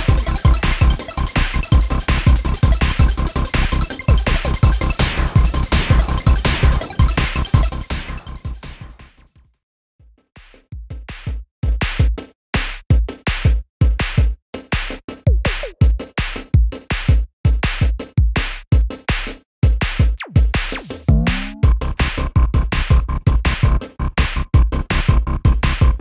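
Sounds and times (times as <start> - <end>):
electronic music with drum-machine beat: 0.0 - 9.2, 10.5 - 23.9.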